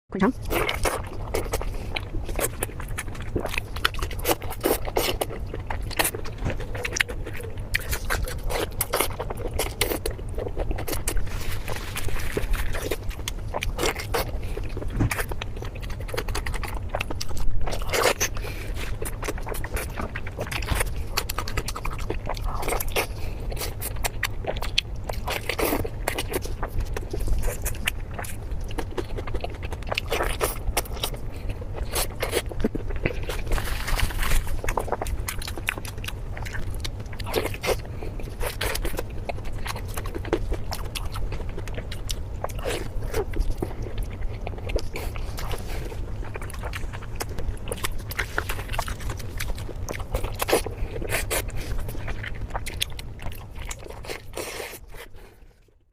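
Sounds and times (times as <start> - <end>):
low hum: 0.1 - 55.9
person chewing crunchy food: 0.2 - 55.9.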